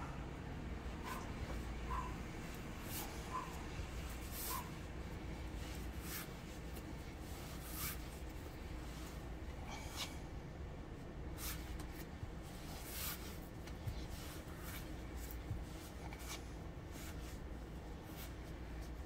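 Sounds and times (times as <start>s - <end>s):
low steady hum: 0.0s - 19.0s
hands kneading bread dough: 0.7s - 19.0s.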